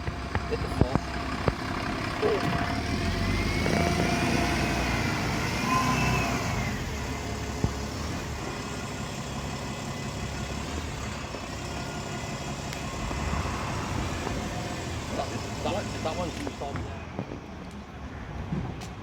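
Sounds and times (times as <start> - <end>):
bus engine rumbling: 0.0 - 19.0
engine whine: 0.0 - 19.0.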